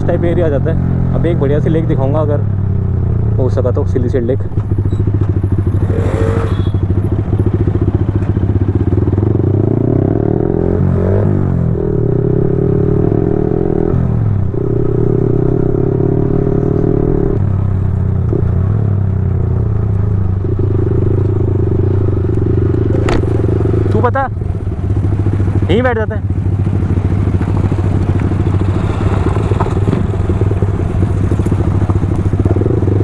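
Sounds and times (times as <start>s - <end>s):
motorcycle engine riding: 0.0s - 33.0s.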